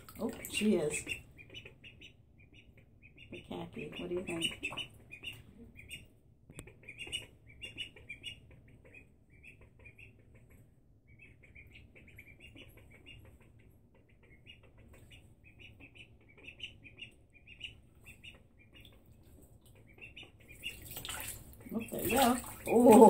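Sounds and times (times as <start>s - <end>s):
ducklings peeping: 0.1s - 23.0s.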